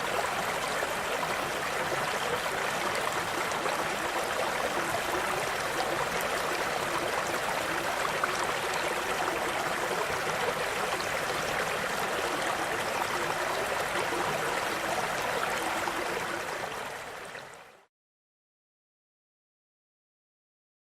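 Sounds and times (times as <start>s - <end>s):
stream water babbling: 0.0s - 17.9s.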